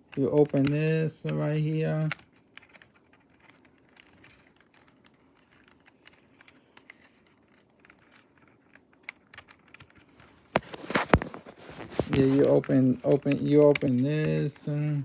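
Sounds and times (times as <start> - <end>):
plastic parts clicking and rustling: 0.0 - 15.0.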